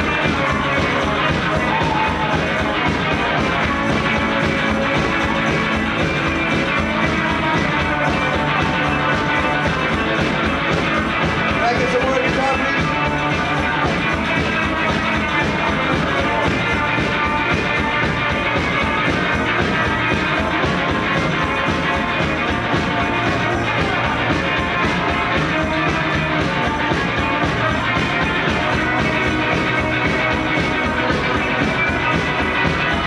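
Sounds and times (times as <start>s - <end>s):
rock and roll band playing: 0.0s - 33.0s.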